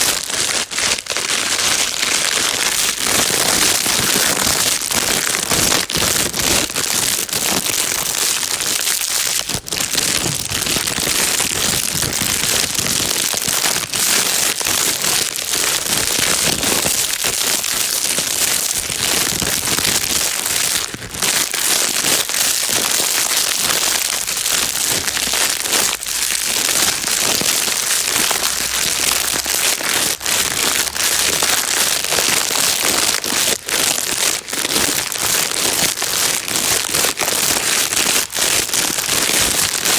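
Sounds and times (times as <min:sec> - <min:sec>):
plastic bag rustling: 0:00.0 - 0:39.9.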